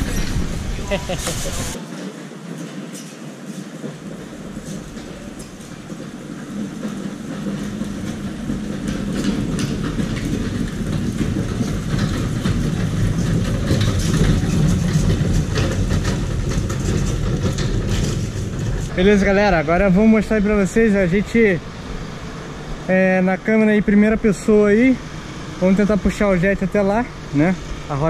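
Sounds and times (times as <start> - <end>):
rattling and clacking: 0.0 - 23.1
wheels rumbling over concrete: 0.0 - 28.0.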